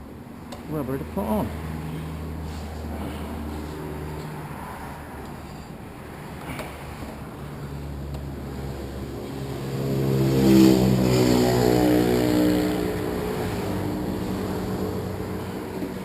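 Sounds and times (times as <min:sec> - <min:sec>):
vehicle engine passing by: 0:00.9 - 0:16.0.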